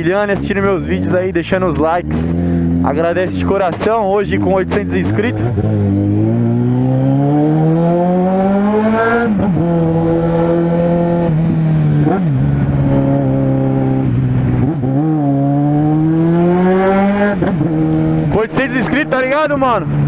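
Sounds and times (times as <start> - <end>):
motorcycle engine and exhaust revving: 0.0 - 20.0.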